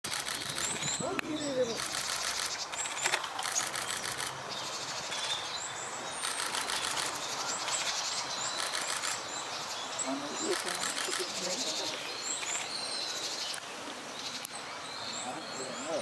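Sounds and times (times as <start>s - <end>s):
thin high bird calls: 0.1s - 16.0s.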